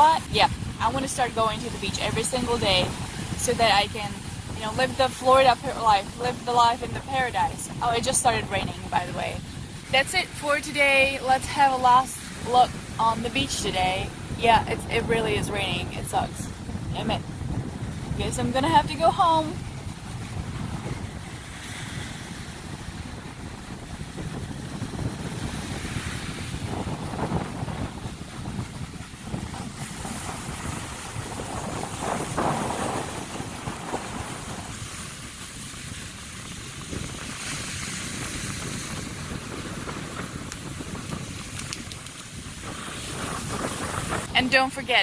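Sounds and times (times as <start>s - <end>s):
ocean surf breaking: 0.0s - 45.0s
strong wind buffeting microphone: 0.0s - 45.0s.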